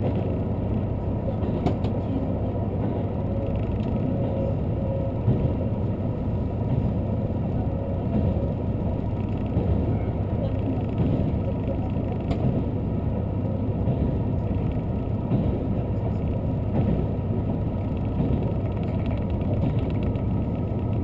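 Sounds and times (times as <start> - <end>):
low engine drone: 0.0 - 21.0
train wheels rumbling on rails: 0.0 - 21.0.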